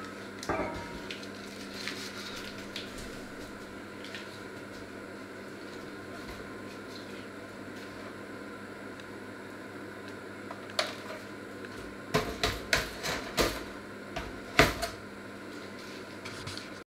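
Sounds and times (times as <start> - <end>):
steady hum: 0.0 - 16.8.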